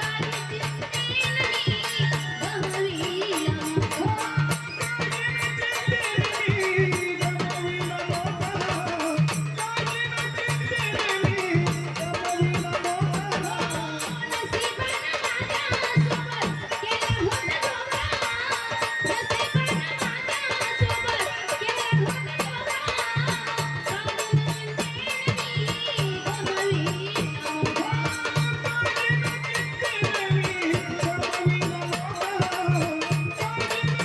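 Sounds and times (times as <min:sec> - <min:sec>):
rattling percussion: 0:00.0 - 0:34.0.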